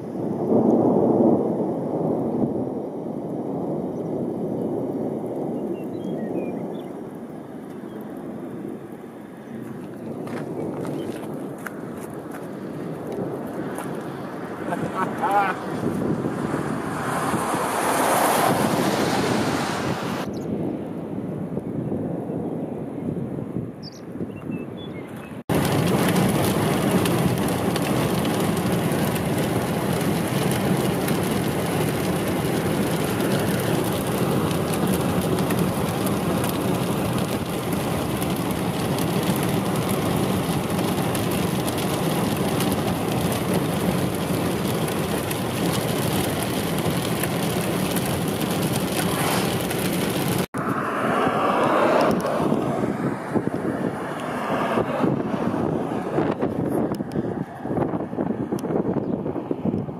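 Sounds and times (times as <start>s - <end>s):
light gusting wind: 0.0s - 59.9s
storm wind roaring on microphone: 0.0s - 59.9s.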